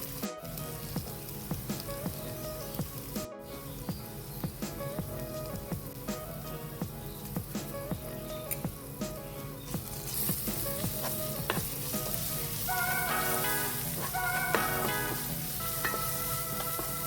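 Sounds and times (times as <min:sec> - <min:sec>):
omelette sizzling in a pan: 0:00.0 - 0:17.0.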